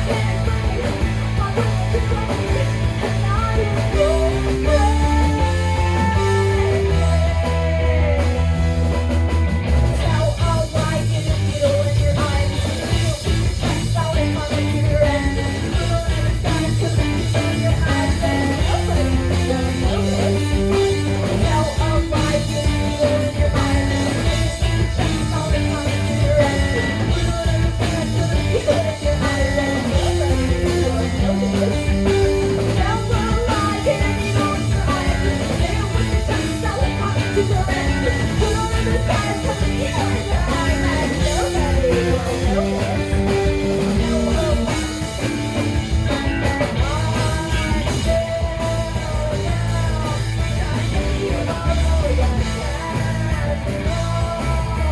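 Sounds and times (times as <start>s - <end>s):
bass notes: 0.0s - 54.9s
rock band playing live: 0.0s - 54.9s.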